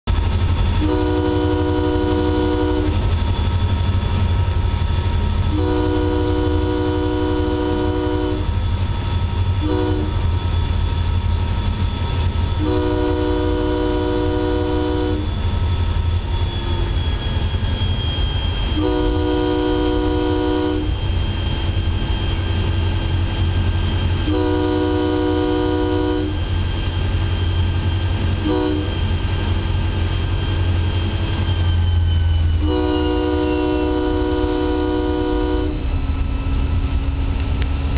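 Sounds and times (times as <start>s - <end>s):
locomotive low rumble: 0.0s - 37.9s
locomotive air horn blasts: 0.2s - 3.2s, 5.3s - 8.8s, 9.5s - 10.5s, 11.8s - 15.5s, 16.6s - 36.2s.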